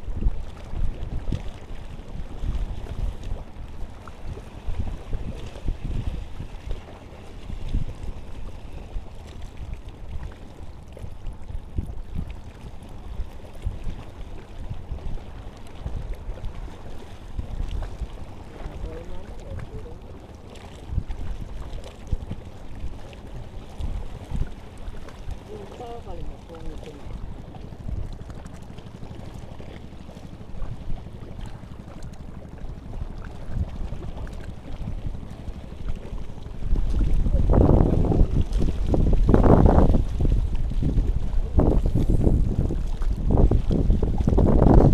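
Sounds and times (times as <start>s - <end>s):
water lapping against concrete: 0.0s - 44.9s
wind on microphone: 0.0s - 44.9s.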